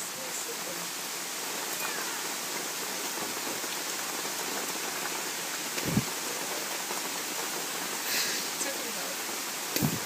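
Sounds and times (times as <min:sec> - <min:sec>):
pouring rain: 0:00.0 - 0:10.0.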